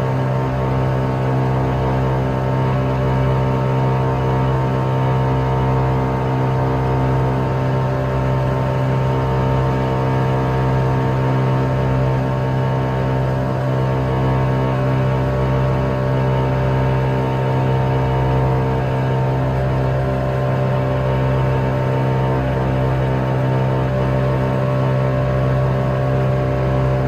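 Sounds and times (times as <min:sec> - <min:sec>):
aircraft propeller engines droning: 0:00.0 - 0:27.0.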